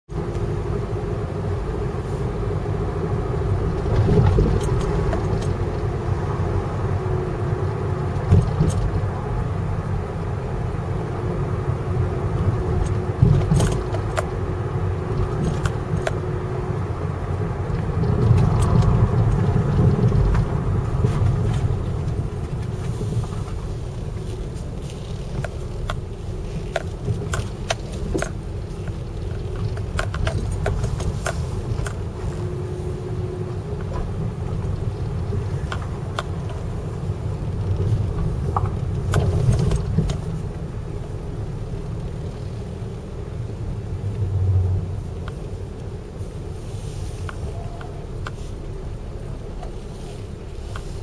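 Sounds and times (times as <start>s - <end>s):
boat engine rumbling: 0.1s - 51.0s.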